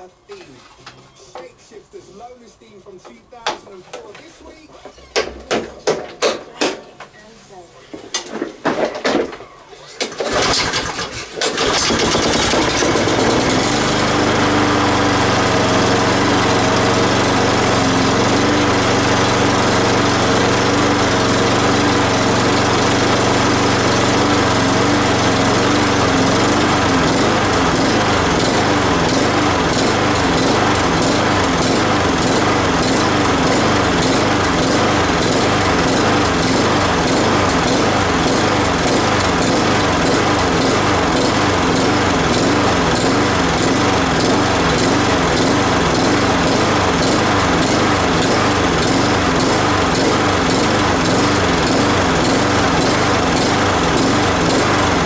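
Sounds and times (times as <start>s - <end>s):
lawn mower engine running: 10.0s - 55.0s.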